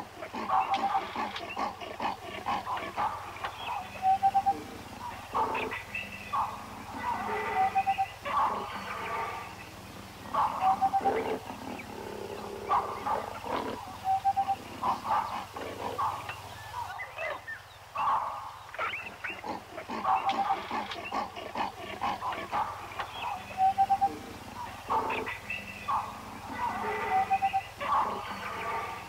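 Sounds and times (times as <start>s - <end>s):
harsh animal calls: 0.0s - 29.0s.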